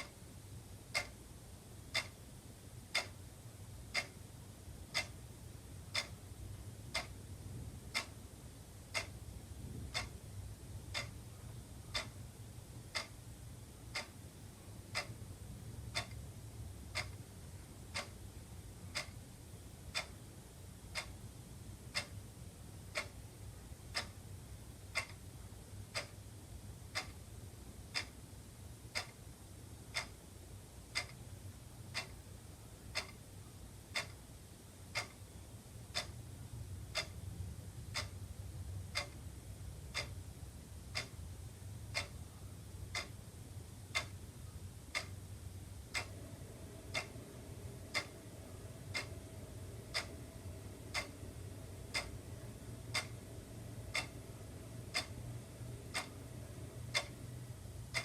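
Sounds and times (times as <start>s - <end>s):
faint low hum: 0.0s - 58.0s
wall clock ticking: 0.0s - 58.0s.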